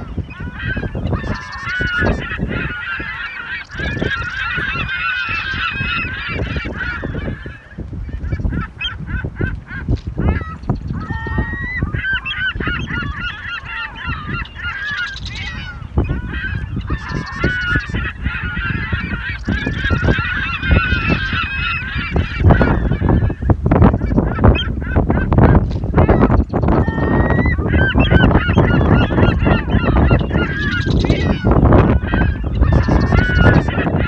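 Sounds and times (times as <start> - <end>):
flock of birds calling: 0.0 - 34.0
wind buffeting the microphone: 0.0 - 34.0.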